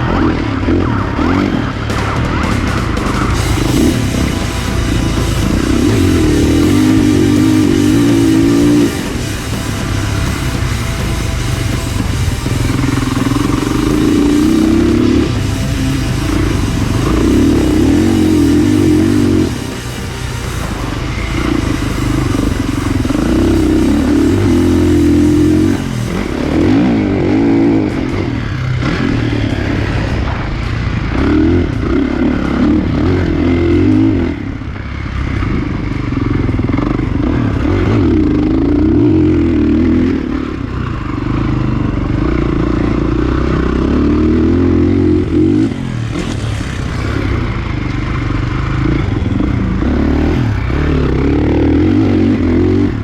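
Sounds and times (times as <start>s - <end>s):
motocross engine revving: 0.0s - 53.0s.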